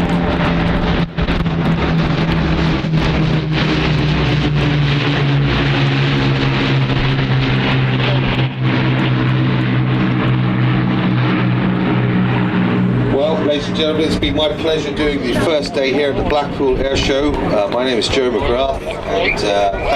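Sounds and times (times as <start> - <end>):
propeller aircraft engines droning: 0.0 - 19.9.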